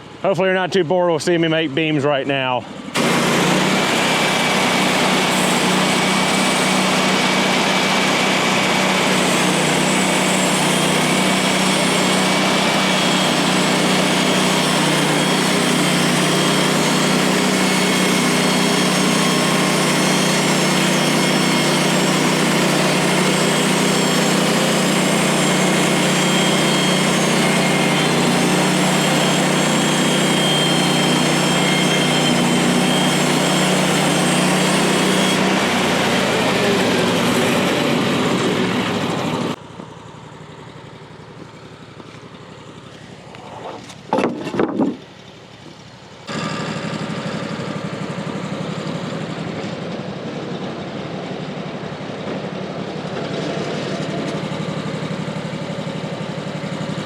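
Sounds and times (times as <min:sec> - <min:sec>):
gas engine hum: 0:00.0 - 0:56.7.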